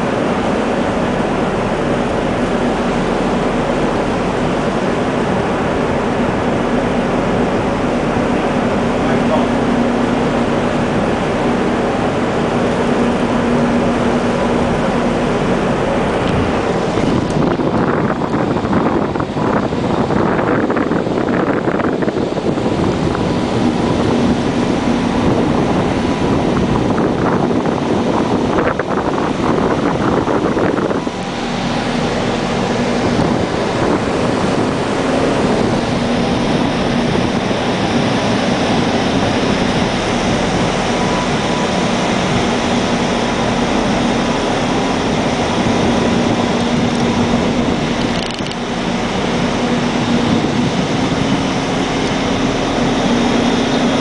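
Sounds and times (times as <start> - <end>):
ship machinery drone: 0.0 - 54.0
wind on microphone: 0.0 - 54.0.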